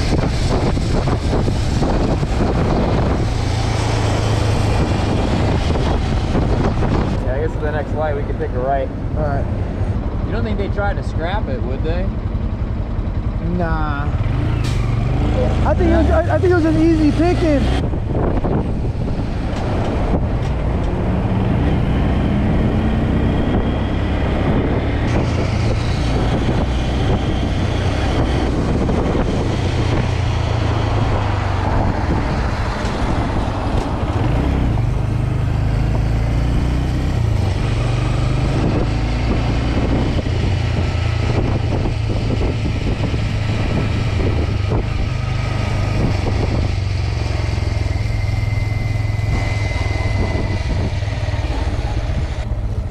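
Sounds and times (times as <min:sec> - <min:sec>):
motorbike running: 0:00.0 - 0:52.9
passing traffic: 0:00.0 - 0:52.9
road noise: 0:00.0 - 0:52.9
wind rumble on microphone: 0:00.0 - 0:52.9.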